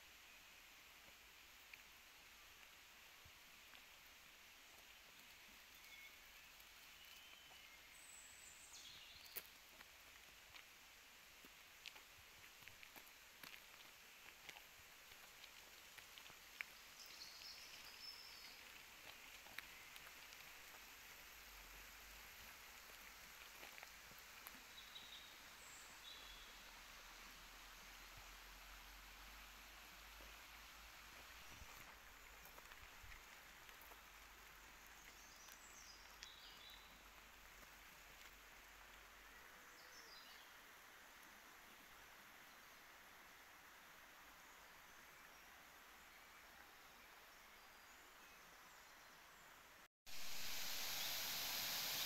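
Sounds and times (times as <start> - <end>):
faint woodland hiss: 0.0 - 52.0.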